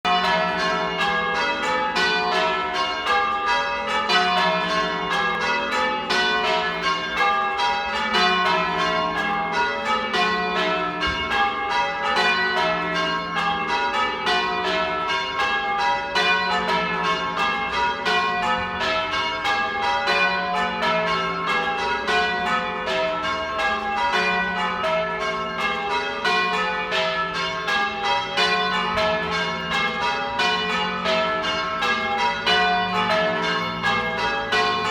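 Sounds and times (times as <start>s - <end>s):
church bells ringing in succession: 0.0s - 34.9s.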